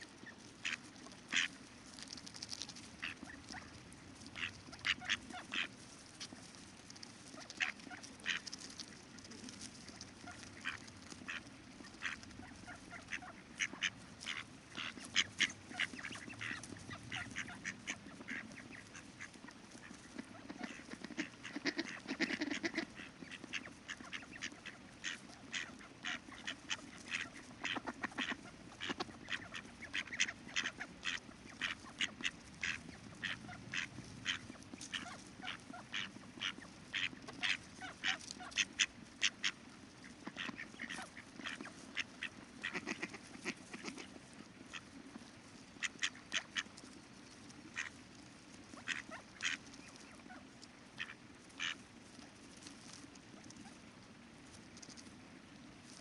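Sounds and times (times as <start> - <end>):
ducks quacking: 0.0 - 51.9.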